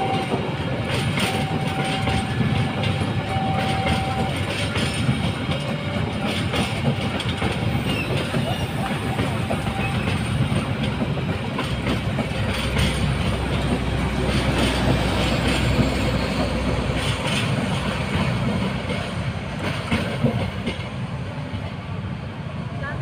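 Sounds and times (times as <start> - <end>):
wheels clacking over rail joints: 0.0 - 21.8
train rolling rumble: 0.0 - 23.0.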